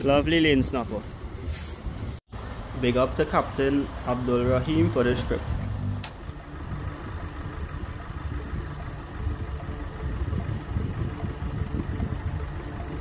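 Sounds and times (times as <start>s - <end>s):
engine idling: 2.3s - 13.0s.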